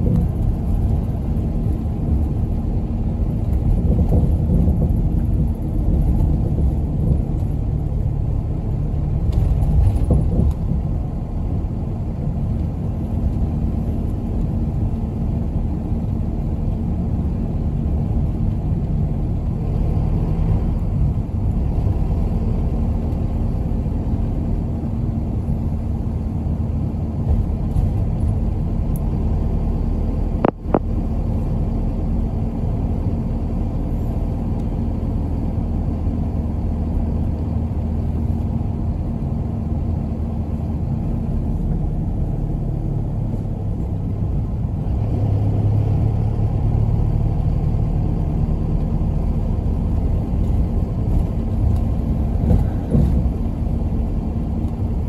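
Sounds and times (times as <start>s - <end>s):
bus engine rumble: 0.0s - 55.0s.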